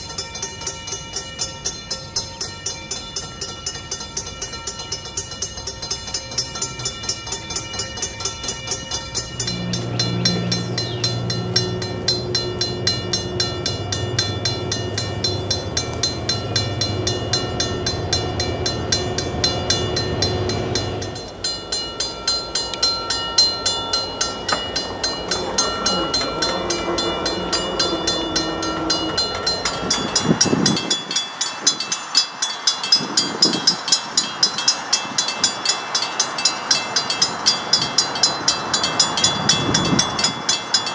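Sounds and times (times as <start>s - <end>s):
railroad crossing bells clanging: 0.0s - 40.9s
train passing: 0.0s - 40.9s.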